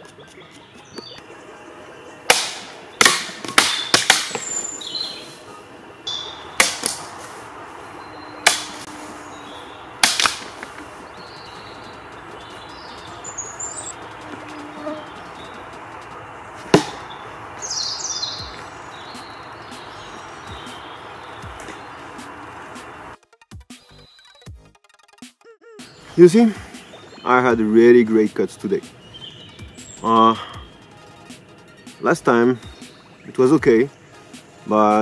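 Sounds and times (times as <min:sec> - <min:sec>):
birds chirping faintly: 0:00.0 - 0:23.2, 0:25.8 - 0:35.0.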